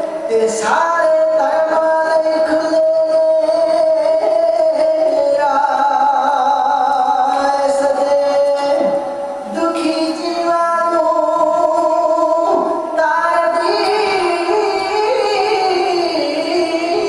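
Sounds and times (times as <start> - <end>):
men singing sustained melody: 0.0 - 17.0.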